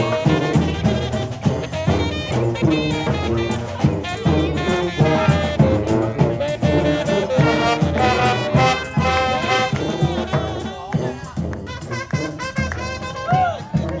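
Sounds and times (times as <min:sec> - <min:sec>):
brass horns playing: 0:00.0 - 0:14.0.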